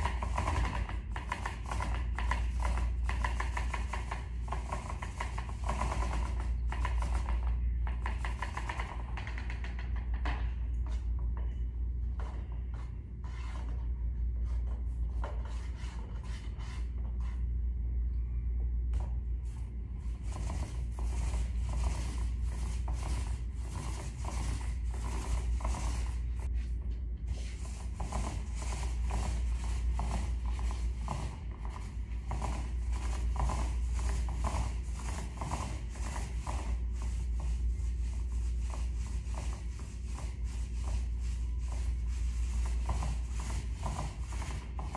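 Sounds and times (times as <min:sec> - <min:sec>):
paint roller rubbing on wall: 0:00.0 - 0:44.9
steady low hum: 0:00.0 - 0:44.9.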